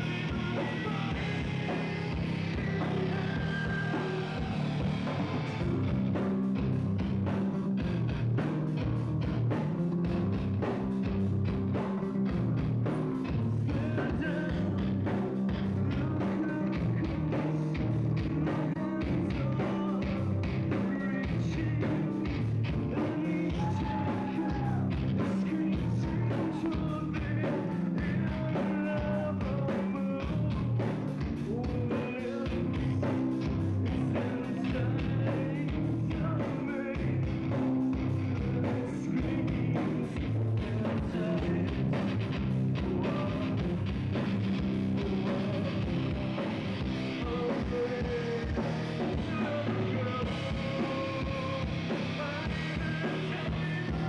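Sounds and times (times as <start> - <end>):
person singing: 0.0 - 7.1, 12.8 - 54.0
drums beating: 0.0 - 54.0
rock band playing live: 0.0 - 54.0.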